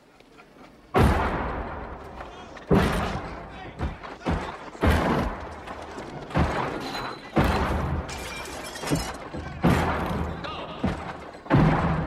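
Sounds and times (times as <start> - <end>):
loud gunshots: 0.9 - 8.4, 9.0 - 12.0
debris crashing and shattering: 0.9 - 12.0.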